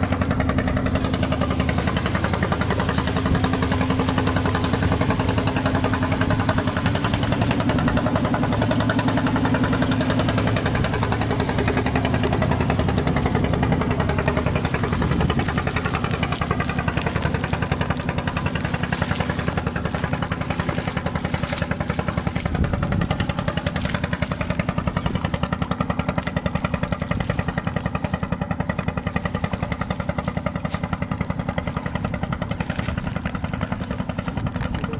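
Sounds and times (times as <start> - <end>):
engine chugging steadily: 0.0 - 34.9.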